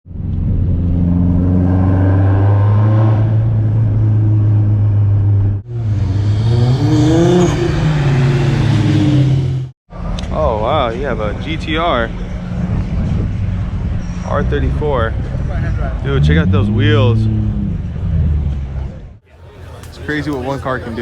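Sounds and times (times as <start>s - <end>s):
car engine revving: 0.3s - 9.8s, 11.6s - 19.2s.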